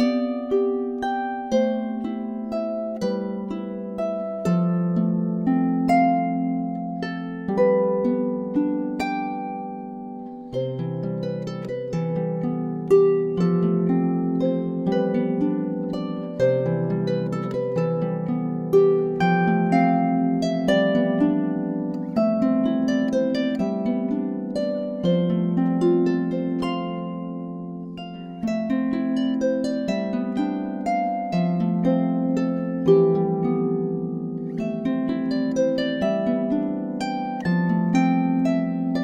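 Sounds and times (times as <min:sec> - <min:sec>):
harp playing: 0:00.0 - 0:39.0.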